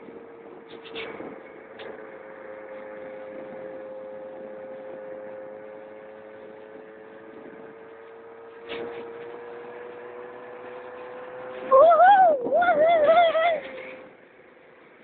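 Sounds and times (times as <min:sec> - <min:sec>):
scooter engine whine: 0:00.0 - 0:15.0.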